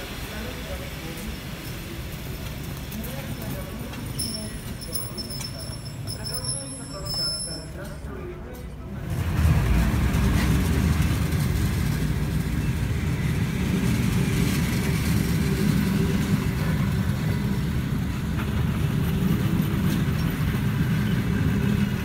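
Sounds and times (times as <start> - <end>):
train coaches rolling past: 0.0 - 22.0.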